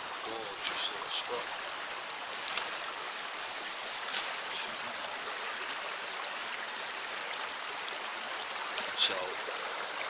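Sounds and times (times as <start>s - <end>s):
shallow river rushing: 0.0s - 10.0s.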